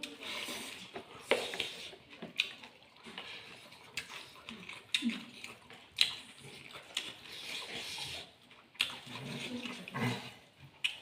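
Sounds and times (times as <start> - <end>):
chewing with clicks and smacks: 0.0 - 11.0.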